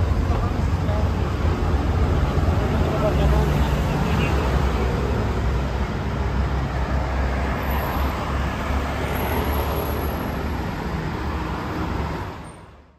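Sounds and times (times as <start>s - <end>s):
cars driving past: 0.0s - 12.9s.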